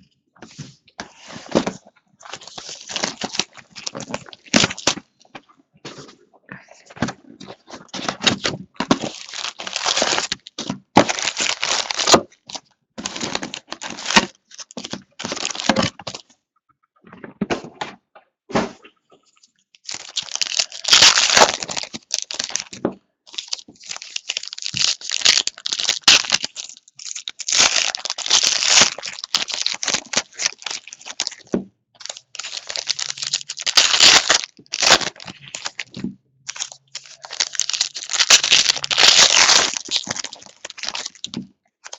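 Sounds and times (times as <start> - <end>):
plastic wrapping crinkling: 1.1 - 5.1, 7.2 - 16.2, 19.8 - 41.9.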